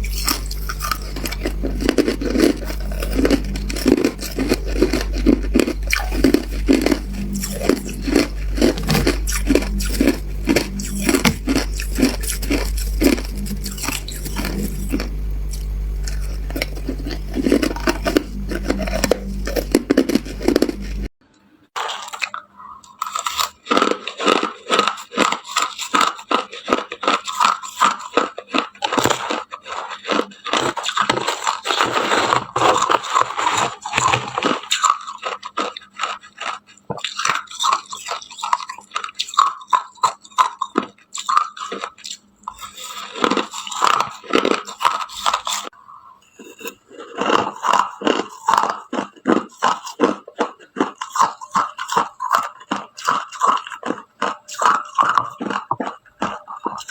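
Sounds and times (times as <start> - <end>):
ice being chewed: 0.0 - 21.1, 21.8 - 56.9.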